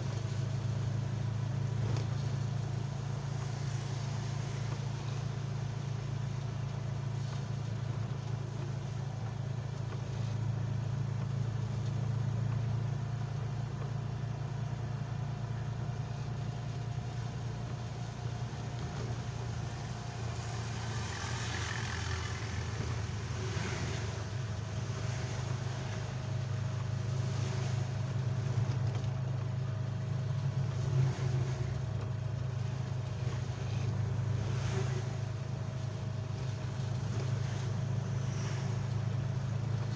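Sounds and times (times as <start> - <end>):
tyres hissing on wet road: 0.0 - 11.4, 16.0 - 28.8, 29.6 - 39.9
vehicle engine drone: 0.0 - 39.9.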